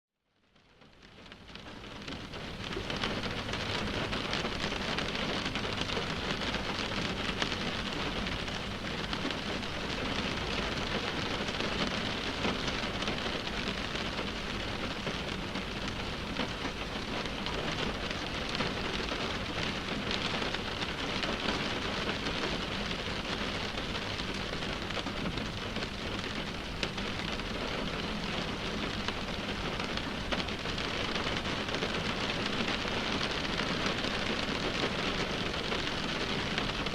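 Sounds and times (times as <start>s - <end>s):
rain drumming on windshield: 0.4s - 36.9s.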